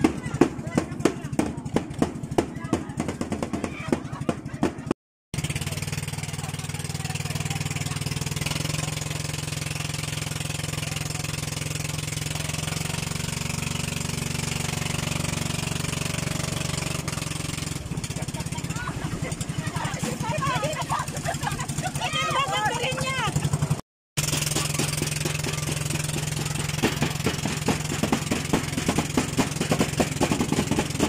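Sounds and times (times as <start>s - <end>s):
boat engine running: 0.0s - 31.0s
water wash: 5.5s - 23.0s, 23.6s - 31.0s.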